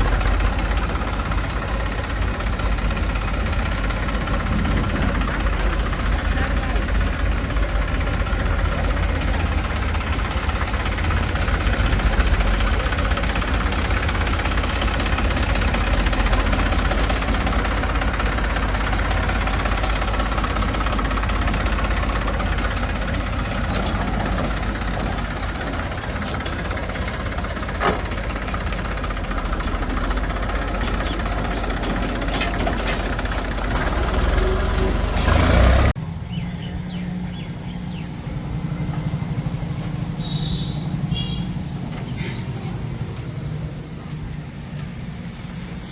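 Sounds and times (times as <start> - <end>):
diesel machinery engine running: 0.0 - 45.9.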